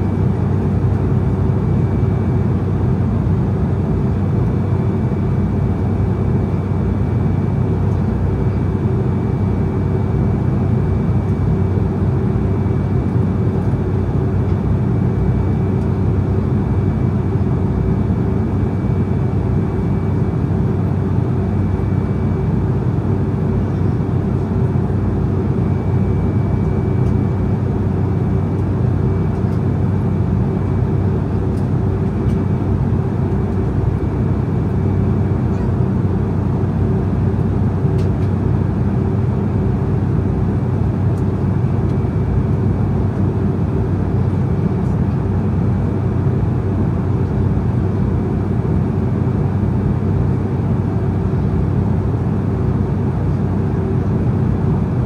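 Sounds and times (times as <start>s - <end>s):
airliner cabin noise: 0.0s - 55.0s
low steady hum: 0.0s - 55.0s.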